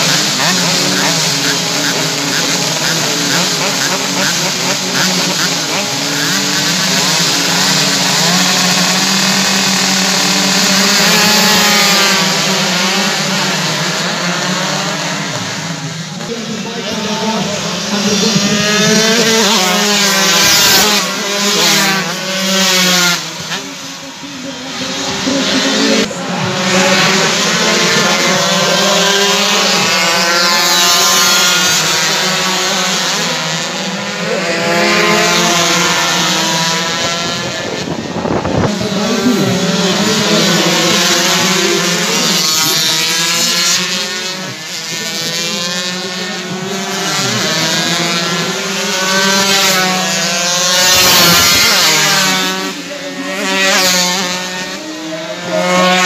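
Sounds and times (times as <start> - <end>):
motorcycles passing at high revs: 0.0 - 56.0.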